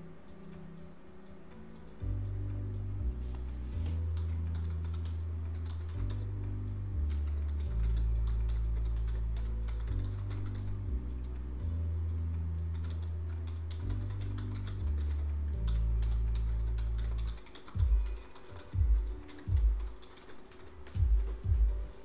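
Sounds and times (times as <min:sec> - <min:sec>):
background music with low bass: 0:00.0 - 0:22.0
keyboard typing: 0:03.3 - 0:22.0.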